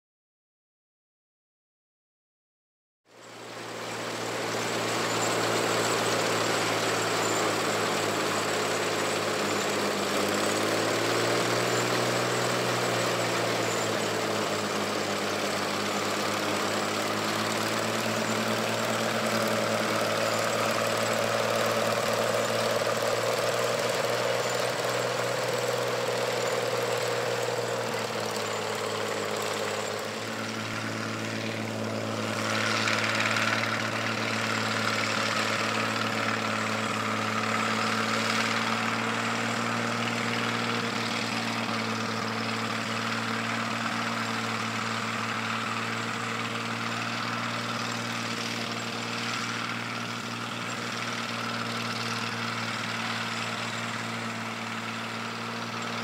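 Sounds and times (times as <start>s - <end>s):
combine engine running: 3.1s - 56.0s
threshing machinery noise: 3.1s - 56.0s.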